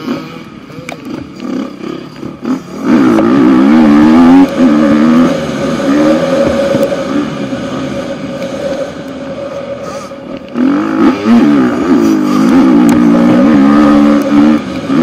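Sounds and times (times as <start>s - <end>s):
motocross engine revving: 0.0s - 15.0s.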